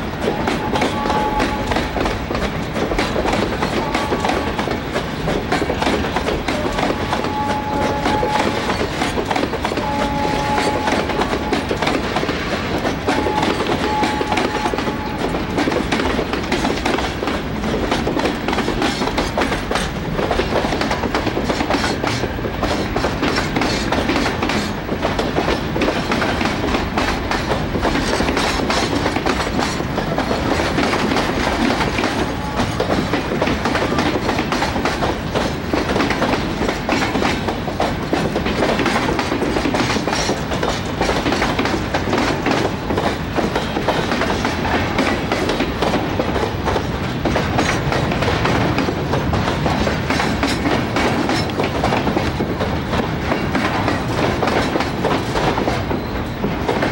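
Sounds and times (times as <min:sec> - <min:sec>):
train wheels clickety-clack: 0:00.0 - 0:56.9.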